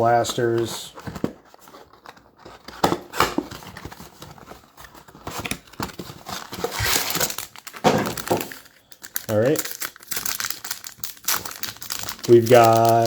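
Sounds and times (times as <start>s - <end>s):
foil packs torn and crinkled: 1.9s - 13.0s.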